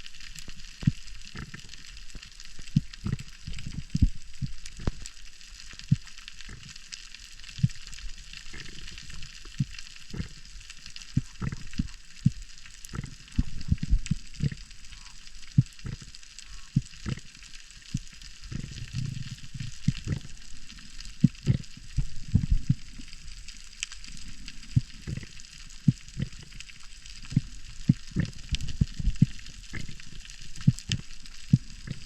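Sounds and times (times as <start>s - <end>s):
underwater sizzling crackle: 0.0s - 32.0s.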